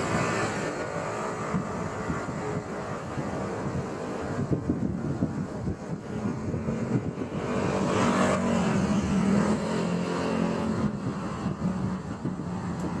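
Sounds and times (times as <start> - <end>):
traffic rumble: 0.0 - 13.0
vehicle passing: 0.0 - 13.0.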